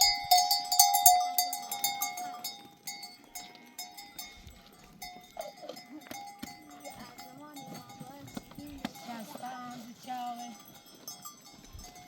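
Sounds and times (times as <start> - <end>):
sheep bells clanging: 0.0 - 12.0.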